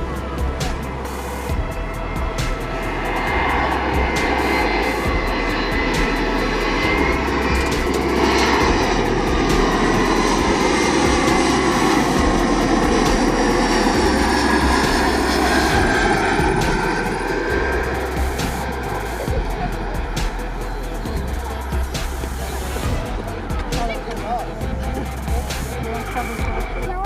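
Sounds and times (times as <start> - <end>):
jet airliner engines passing: 0.0 - 27.0.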